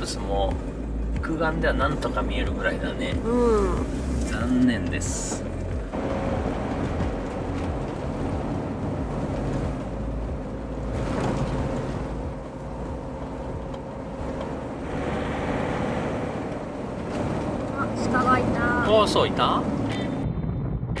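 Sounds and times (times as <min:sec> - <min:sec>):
van road and engine noise: 0:00.0 - 0:21.0.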